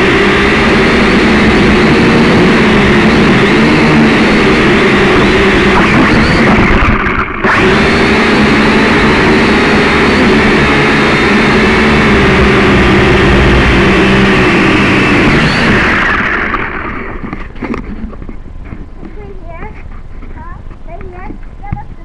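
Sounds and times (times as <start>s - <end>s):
motor running loudly: 0.0s - 18.3s.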